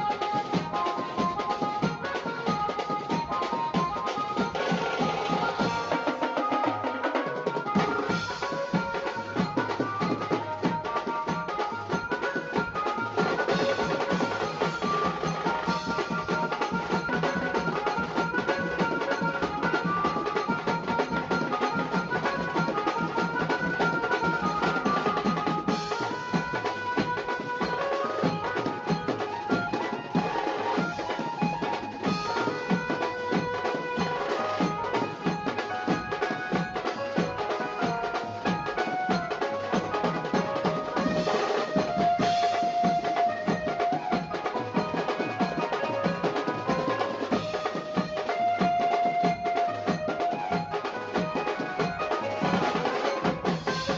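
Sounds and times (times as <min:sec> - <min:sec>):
music with rapid drumming: 0:00.0 - 0:53.9.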